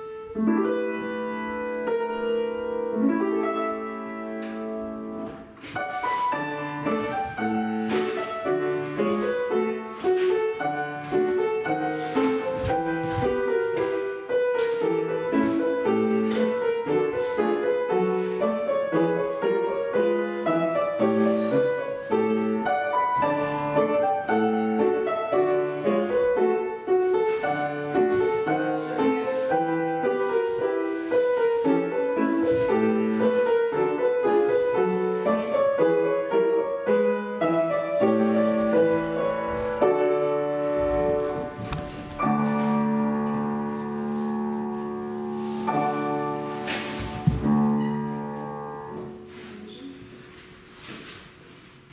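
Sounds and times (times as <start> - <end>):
classical piano accompaniment: 0.0 - 51.9.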